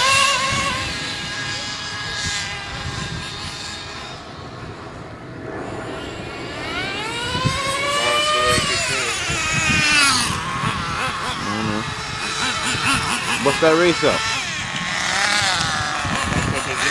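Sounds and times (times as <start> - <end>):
rc car engine whining: 0.0 - 16.9.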